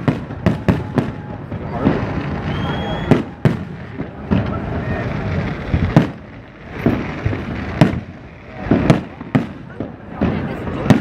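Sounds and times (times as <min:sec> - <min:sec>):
fireworks bangs: 0:00.0 - 0:11.0
rumbling haze from fireworks: 0:00.0 - 0:11.0.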